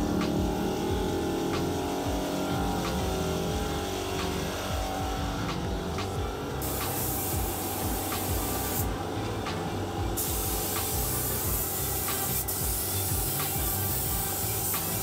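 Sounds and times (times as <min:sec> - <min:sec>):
paint spray gun hissing: 0:00.0 - 0:15.0.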